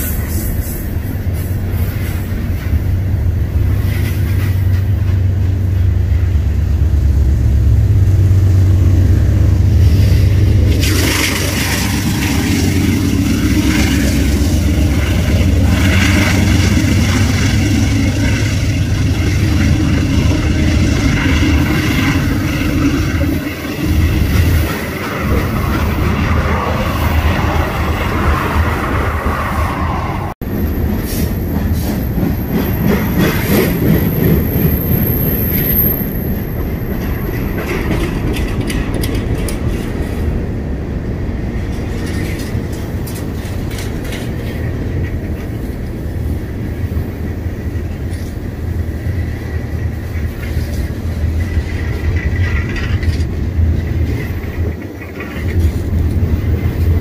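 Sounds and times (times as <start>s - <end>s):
freight train rumbling past: 0.0s - 57.0s
wheel-on-rail noise: 0.0s - 57.0s.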